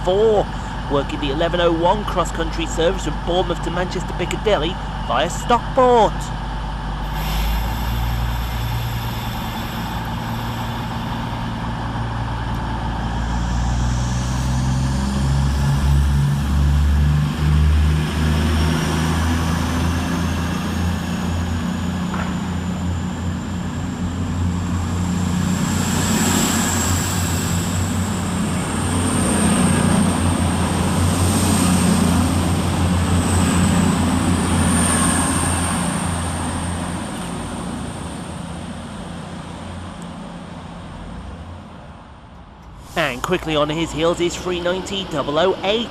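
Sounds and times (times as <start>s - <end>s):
rising high whine: 0.0s - 39.8s, 40.7s - 45.9s
diesel train engines revving: 0.0s - 45.9s.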